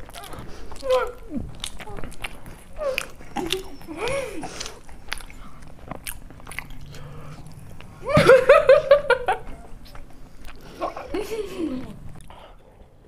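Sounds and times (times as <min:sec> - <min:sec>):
chewing with wet smacking: 0:00.0 - 0:08.7, 0:09.3 - 0:12.4.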